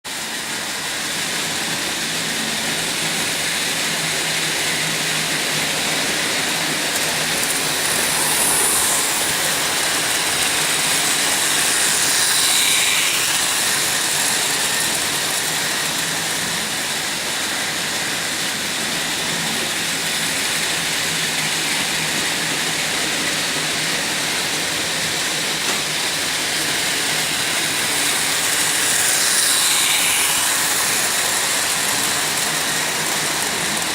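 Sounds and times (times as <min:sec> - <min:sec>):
model train motor whir: 0:00.1 - 0:33.9.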